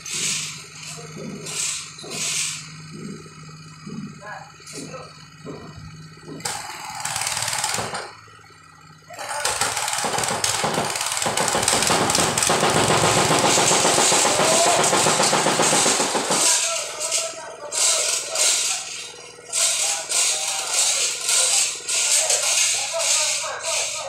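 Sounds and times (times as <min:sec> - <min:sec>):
engine-driven machine racket: 0:00.0 - 0:24.0.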